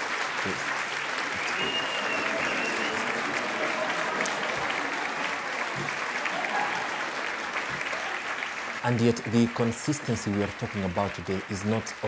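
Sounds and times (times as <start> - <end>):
steady applause: 0.0 - 12.0.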